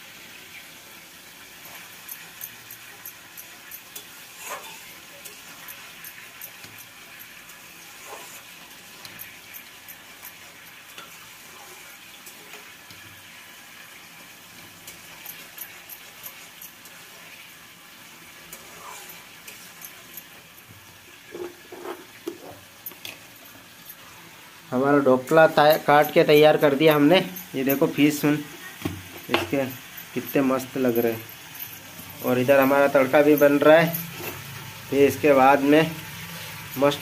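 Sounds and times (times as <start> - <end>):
seeds sizzling in a pan: 0.0 - 37.0.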